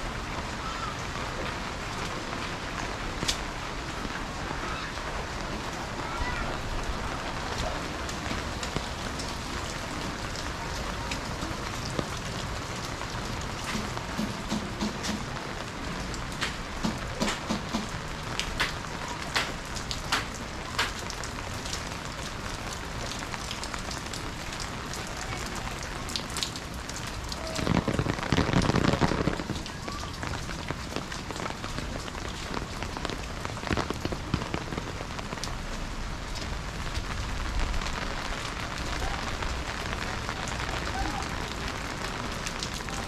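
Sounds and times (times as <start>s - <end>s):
rain with drops tapping: 0.0s - 43.0s.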